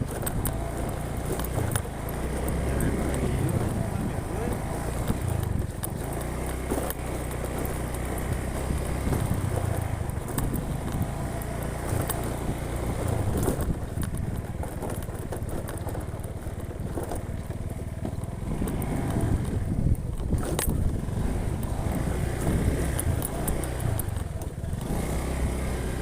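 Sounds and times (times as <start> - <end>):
knocks and rattles: 0.0 - 24.7
vehicle engine rumbling: 0.0 - 26.0.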